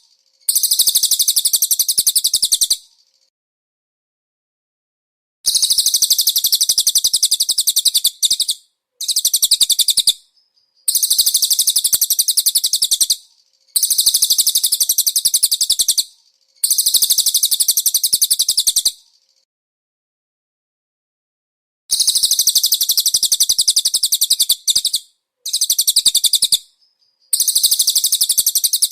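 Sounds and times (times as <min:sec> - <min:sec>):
bird high-pitched trill: 0:00.0 - 0:02.8, 0:05.5 - 0:19.0, 0:21.9 - 0:28.9.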